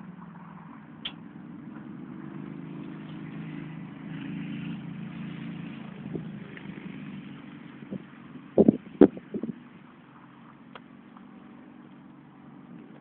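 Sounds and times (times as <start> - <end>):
motor vehicle engine humming: 0.0 - 13.0.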